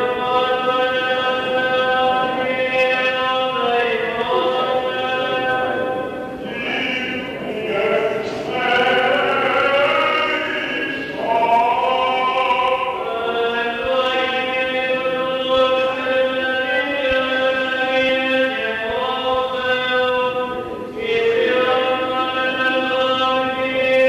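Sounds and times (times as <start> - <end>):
voices chanting: 0.0 - 24.0.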